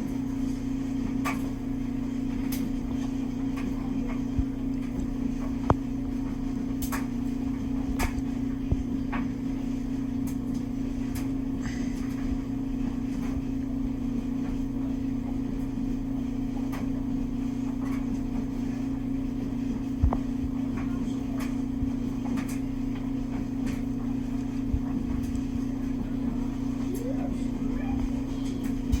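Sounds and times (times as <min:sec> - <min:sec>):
machine humming: 0:00.0 - 0:29.0.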